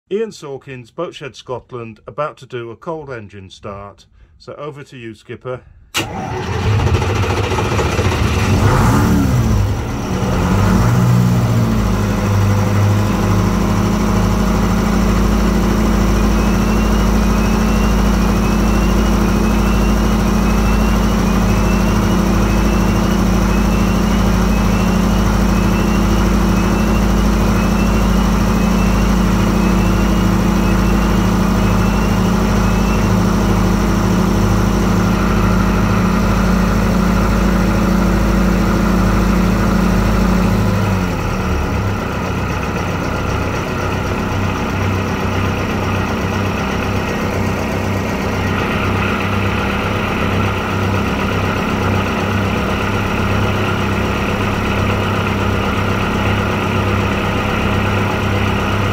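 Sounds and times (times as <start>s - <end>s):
diesel engine idling: 5.9s - 58.9s.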